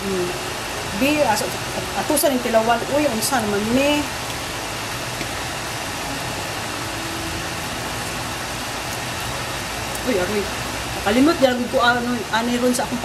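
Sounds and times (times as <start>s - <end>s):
low hum: 0.0s - 12.8s
rushing kitchen noise: 0.0s - 13.0s.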